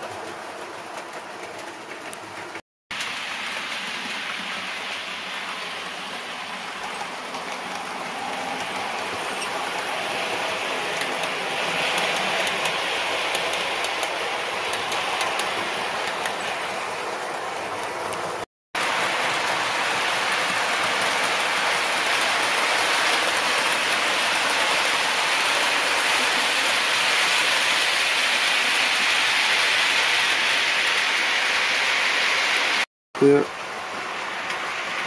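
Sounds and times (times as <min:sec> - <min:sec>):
model train wheels rattling on rails: 0:00.0 - 0:32.8.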